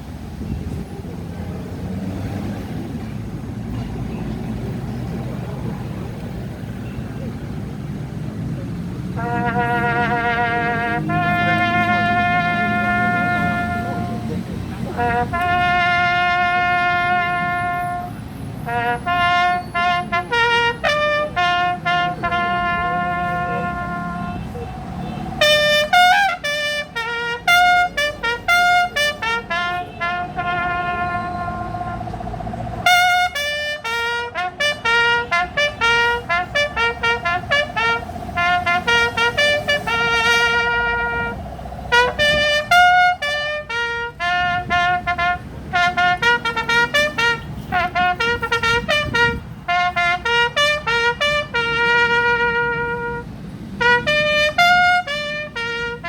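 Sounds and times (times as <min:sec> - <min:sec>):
brass instruments playing: 0:09.2 - 0:56.0.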